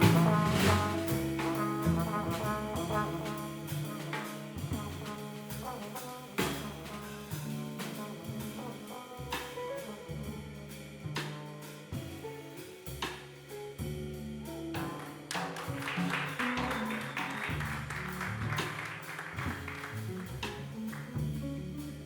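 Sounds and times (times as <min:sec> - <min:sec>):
trombone: 0:00.0 - 0:13.5, 0:14.1 - 0:22.0
cymbal and drum strokes: 0:00.0 - 0:15.6, 0:18.6 - 0:22.0
jazz band playing: 0:00.0 - 0:22.0.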